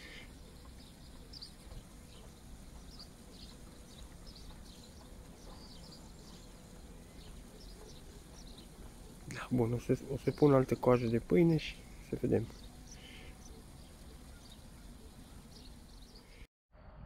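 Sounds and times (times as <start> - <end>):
small birds chirping: 0.0 - 16.5.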